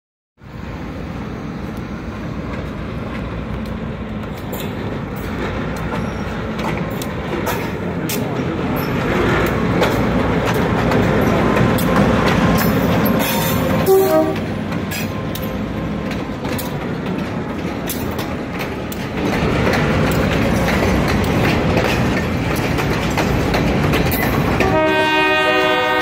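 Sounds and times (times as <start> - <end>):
diesel locomotive engine rumble: 0.4 - 26.0.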